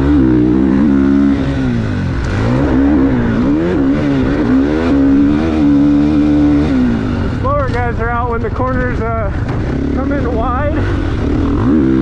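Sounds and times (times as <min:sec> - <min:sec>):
motocross engine revving: 0:00.0 - 0:12.0.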